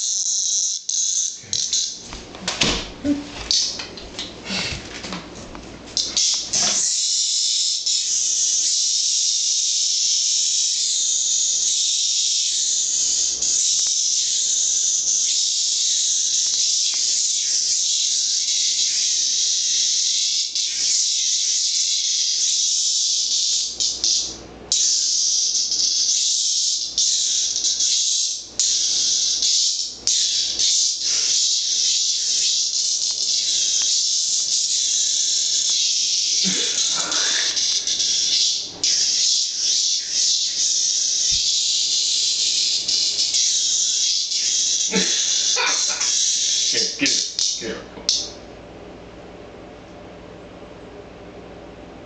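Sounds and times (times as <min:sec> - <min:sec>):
cicada buzzing: 0:00.0 - 0:02.8, 0:06.0 - 0:48.4.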